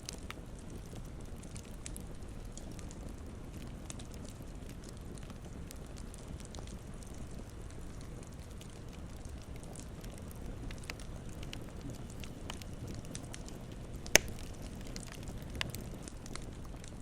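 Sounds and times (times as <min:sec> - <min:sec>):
campfire crackling: 0:00.0 - 0:17.0
fire popping: 0:00.0 - 0:17.0.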